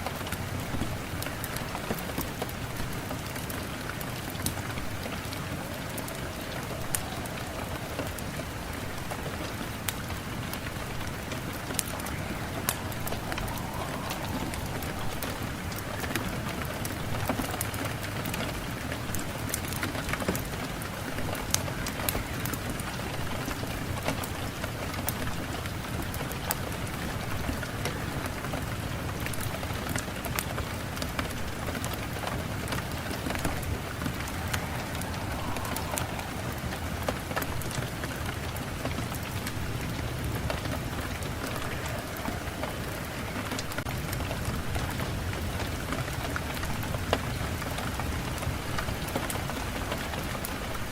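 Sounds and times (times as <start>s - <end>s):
raindrops pattering on a surface: 0.0s - 50.9s
steady rain falling: 0.0s - 50.9s.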